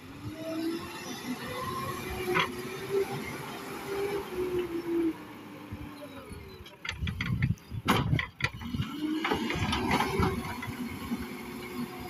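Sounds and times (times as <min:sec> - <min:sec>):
diesel engine working under load: 0:00.0 - 0:12.0.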